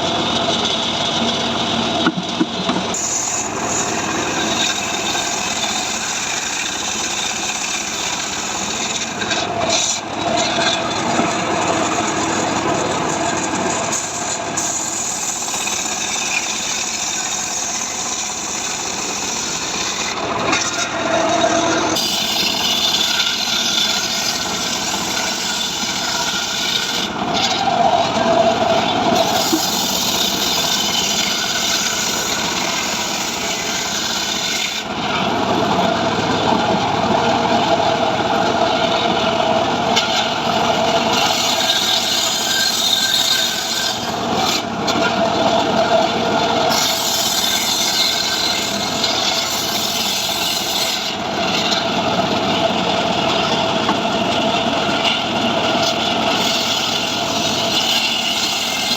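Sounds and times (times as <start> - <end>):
engine-driven saw cutting wood: 0.0 - 58.9.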